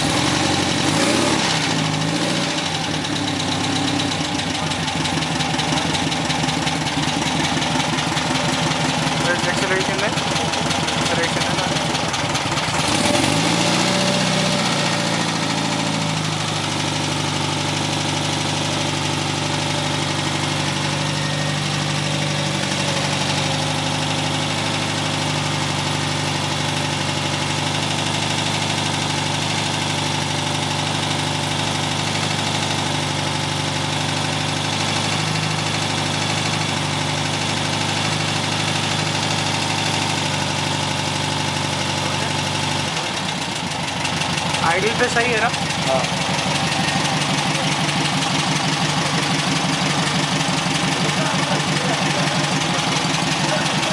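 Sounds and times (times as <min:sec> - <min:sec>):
car engine revving and idling: 0:00.0 - 0:53.9.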